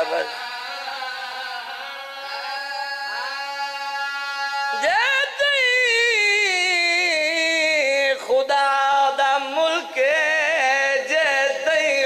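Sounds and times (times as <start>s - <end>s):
man chanting through microphone: 0.0s - 12.0s.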